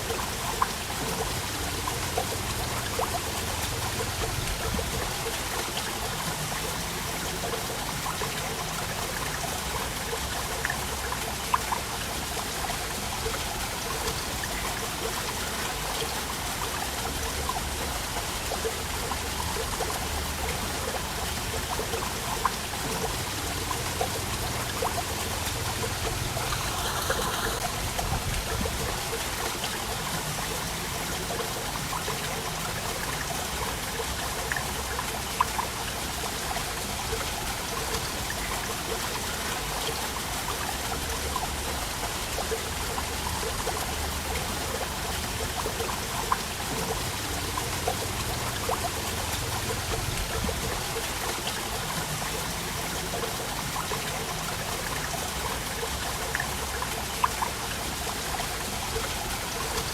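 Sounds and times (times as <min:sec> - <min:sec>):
waterfall splashing: 0:00.0 - 0:59.9.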